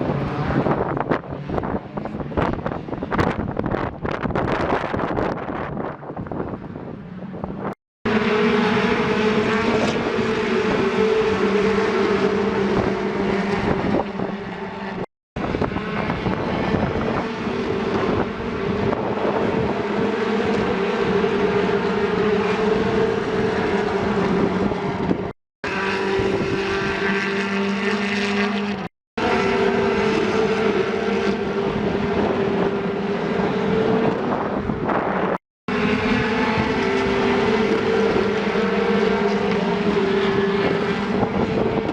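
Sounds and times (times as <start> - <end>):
engine drone: 0.0 - 41.9.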